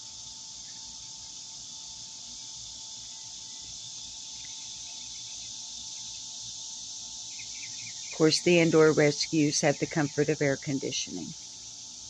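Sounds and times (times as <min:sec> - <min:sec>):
faint steady hum: 0:00.0 - 0:12.0
insect chorus buzzing: 0:00.0 - 0:12.0.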